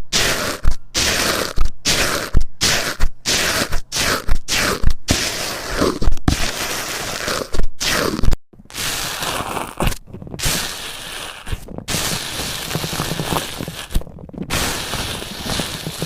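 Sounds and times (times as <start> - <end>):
slime squelching: 0.1 - 16.0.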